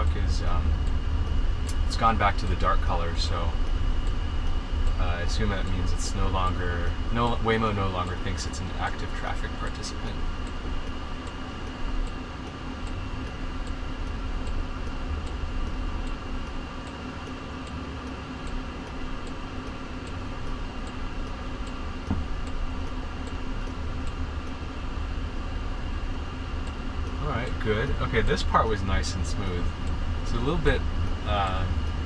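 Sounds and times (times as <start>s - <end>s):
car cabin hum: 0.0s - 32.0s
faint regular ticking: 0.0s - 32.0s.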